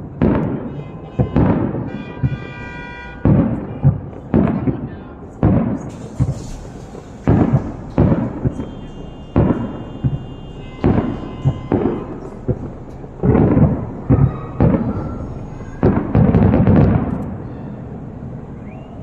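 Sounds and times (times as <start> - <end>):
fireworks booming: 0.0 - 19.0
rumbling firework volleys: 0.0 - 19.0.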